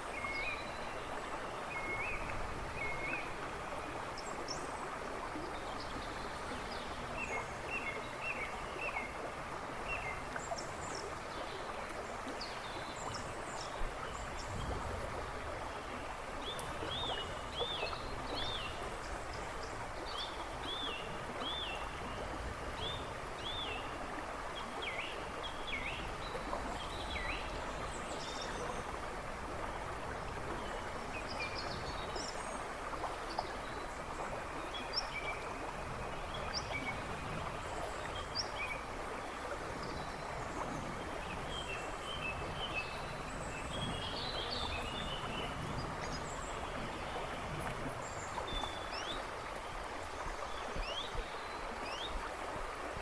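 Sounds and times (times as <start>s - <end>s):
river rushing and babbling: 0.0s - 53.0s.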